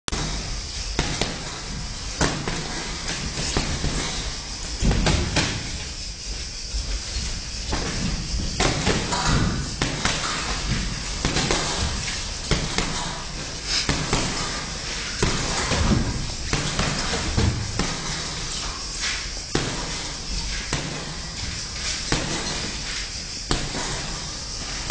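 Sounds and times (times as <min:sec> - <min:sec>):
feet on ring canvas: 0:00.1 - 0:24.9.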